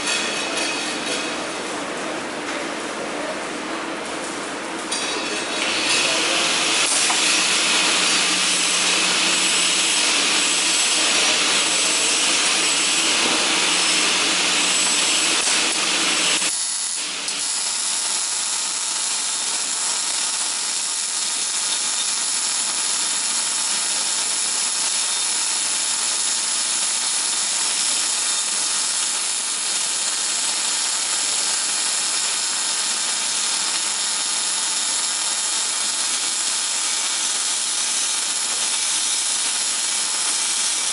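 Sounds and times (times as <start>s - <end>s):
welding arc hissing: 4.9s - 40.9s.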